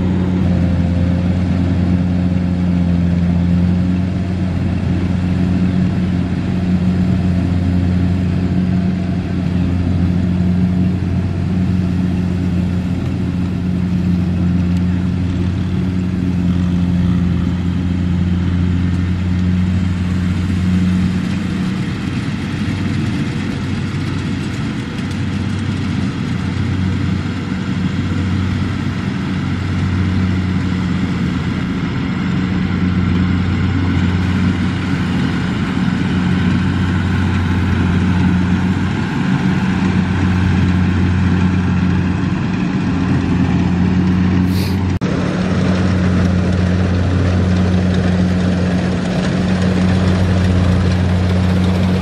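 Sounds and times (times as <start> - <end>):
tractor diesel engine drone: 0.0 - 52.0.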